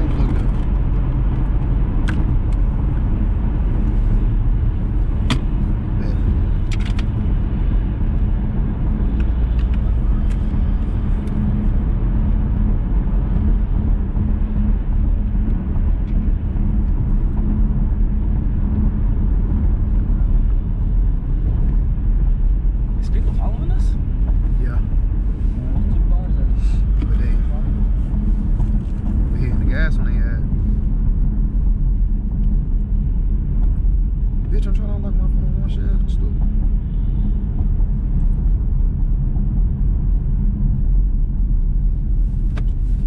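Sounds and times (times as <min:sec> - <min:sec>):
car engine and road rumble: 0:00.0 - 0:43.0.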